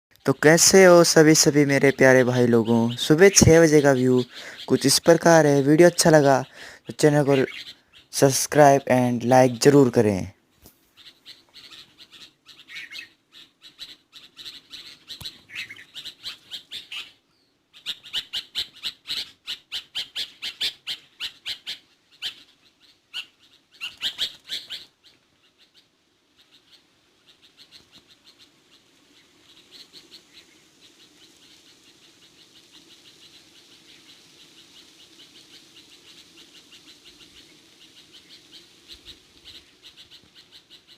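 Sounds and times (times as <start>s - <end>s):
birds chirping: 0.1s - 40.9s.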